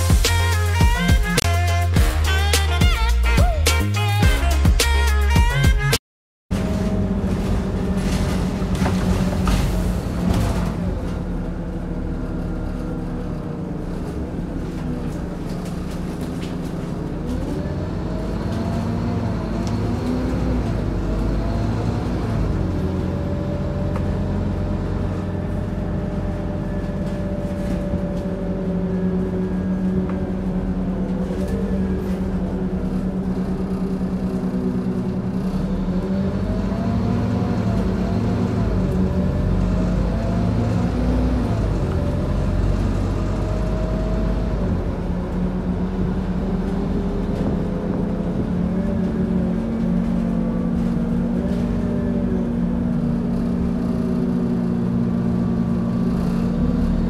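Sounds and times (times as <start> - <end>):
bus engine drone with whine: 6.5 - 57.0.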